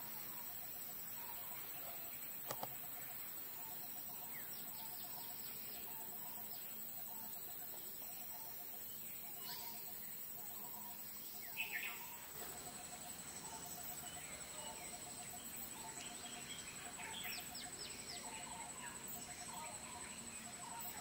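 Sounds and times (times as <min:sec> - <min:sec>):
thin steady high tone: 0:00.0 - 0:21.0.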